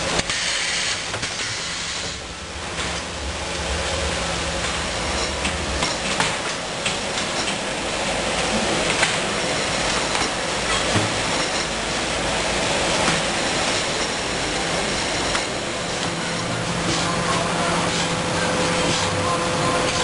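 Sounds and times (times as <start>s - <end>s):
packaging machine hiss and rumble: 0.0s - 20.0s.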